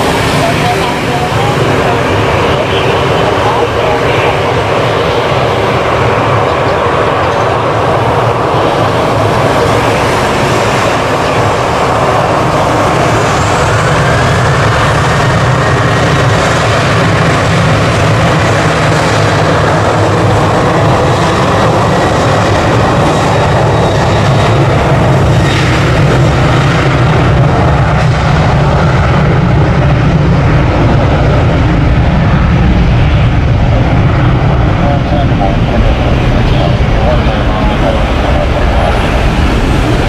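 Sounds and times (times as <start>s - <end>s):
faint jet engine whine: 0.0s - 40.0s
jet engines rumbling: 0.0s - 40.0s.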